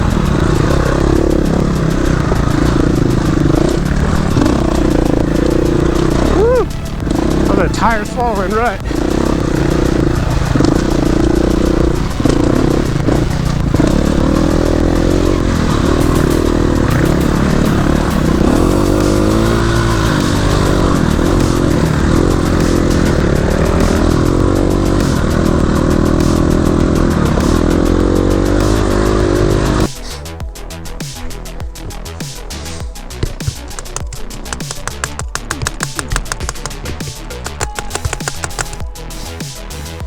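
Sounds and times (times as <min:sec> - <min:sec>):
dirt bike engine revving: 0:00.0 - 0:38.9
electronic music: 0:00.0 - 0:40.0.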